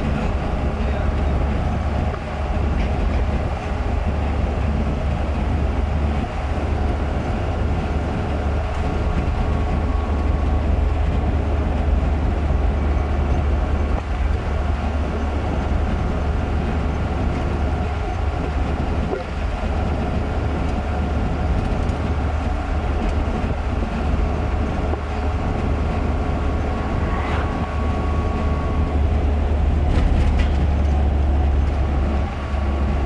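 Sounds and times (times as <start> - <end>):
car interior road rumble: 0.0 - 33.0.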